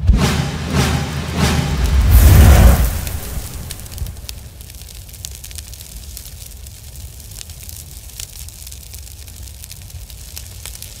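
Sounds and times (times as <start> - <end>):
fire burning: 0.0 - 11.0
fire crackling and popping: 1.0 - 11.0.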